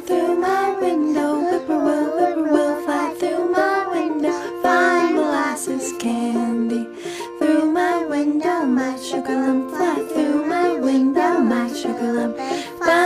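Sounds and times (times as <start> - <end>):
plucked string accompaniment: 0.0 - 13.0
voices singing folk song: 0.0 - 13.0.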